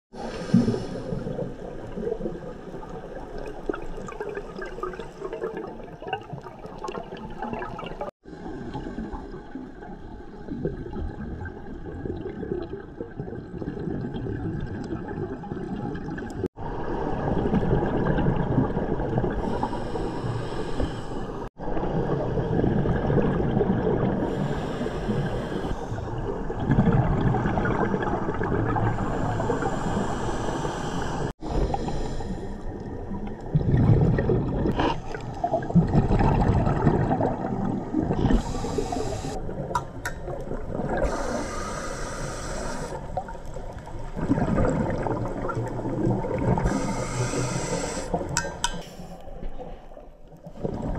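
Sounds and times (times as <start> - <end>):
regulator bubbling underwater: 0.2 - 20.2, 20.9 - 50.9.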